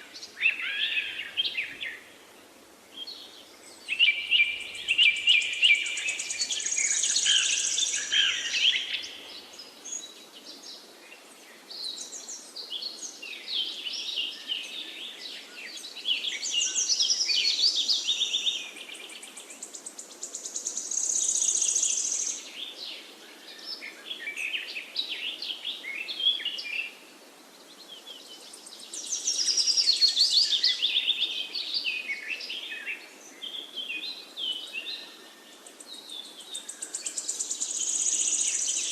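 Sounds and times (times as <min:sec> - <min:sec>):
faint steady hiss: 0:00.0 - 0:38.9
birds chirping and trilling: 0:03.0 - 0:27.0, 0:27.7 - 0:38.9.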